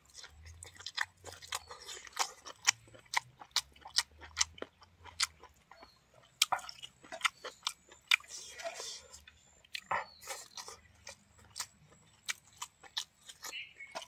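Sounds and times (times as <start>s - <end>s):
person chewing and lip-smacking: 0.0s - 14.0s.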